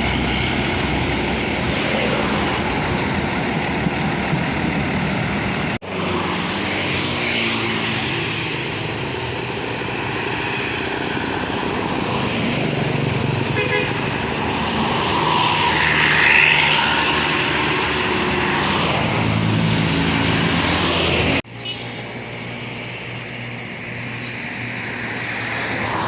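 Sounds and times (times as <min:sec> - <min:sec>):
roadside traffic noise: 0:00.0 - 0:26.0.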